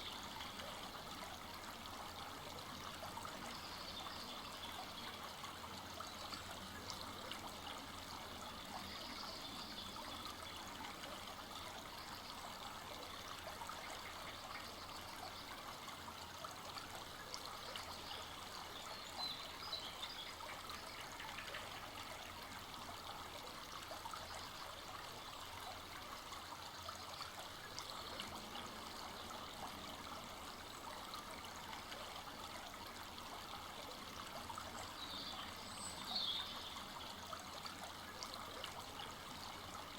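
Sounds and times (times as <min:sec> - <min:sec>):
forest stream running: 0:00.0 - 0:39.9.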